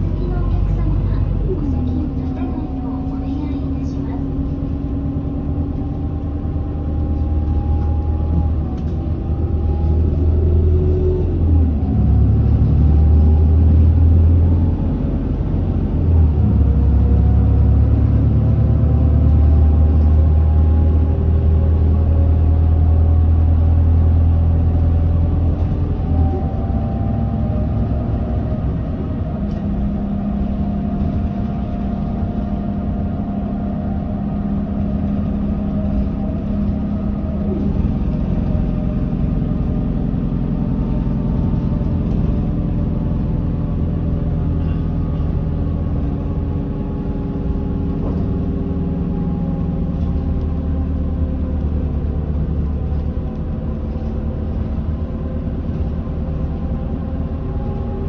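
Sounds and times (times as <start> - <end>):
diesel engine drone: 0.0 - 58.0
road rumble: 0.0 - 58.0.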